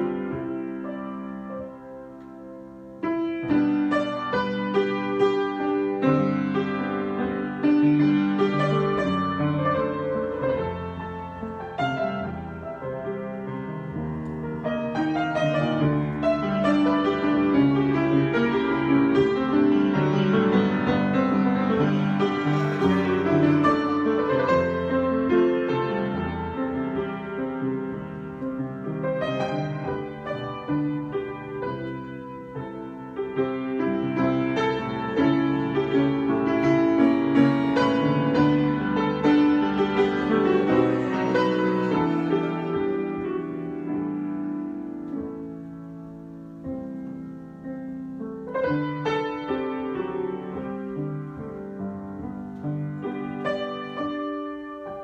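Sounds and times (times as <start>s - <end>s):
solo piano improvisation: 0.0s - 55.0s.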